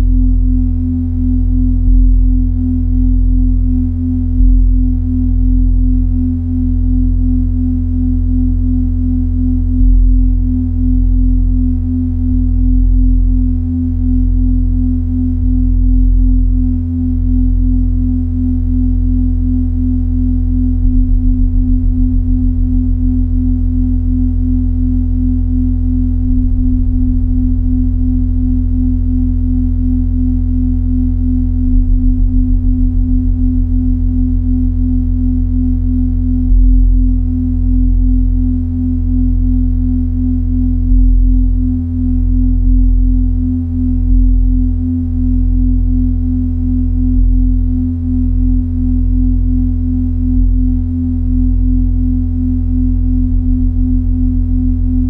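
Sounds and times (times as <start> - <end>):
fast low throb: 0.0 - 7.1, 8.0 - 55.0
deep bass hum: 0.0 - 55.0.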